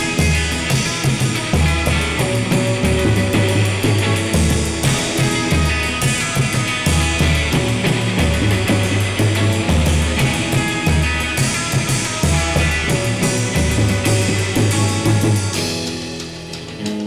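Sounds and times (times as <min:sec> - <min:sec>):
low repeating bass notes: 0:00.0 - 0:16.9
drum kit with cymbals: 0:00.0 - 0:17.0
electric guitar: 0:00.0 - 0:17.0.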